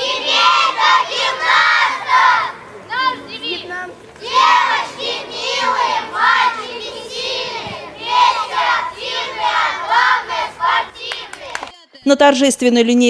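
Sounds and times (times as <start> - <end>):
children singing in unison: 0.0 - 11.6.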